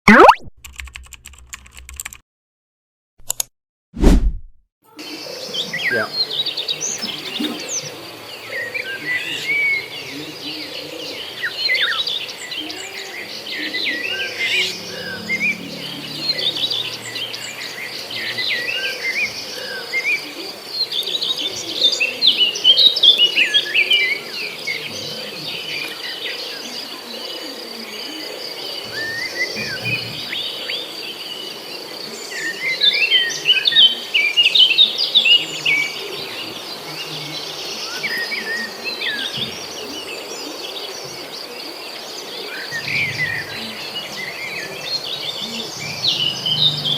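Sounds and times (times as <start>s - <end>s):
birds chirping: 4.9s - 46.9s.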